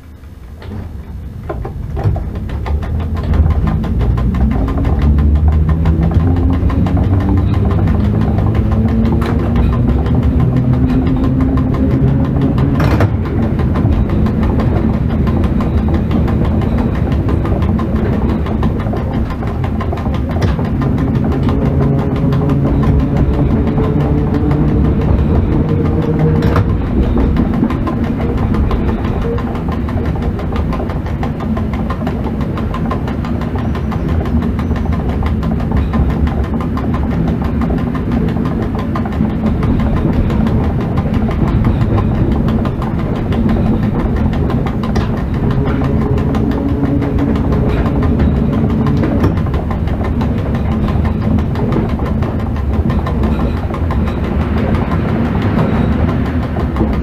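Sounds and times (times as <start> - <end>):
low hum of locomotive machinery: 0.0 - 57.0
wheels rumbling on rail: 0.0 - 57.0.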